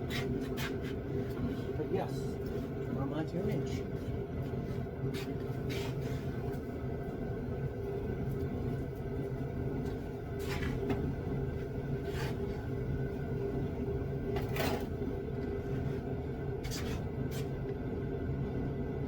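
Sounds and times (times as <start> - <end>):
low mechanical hum and rumble: 0.0 - 19.0.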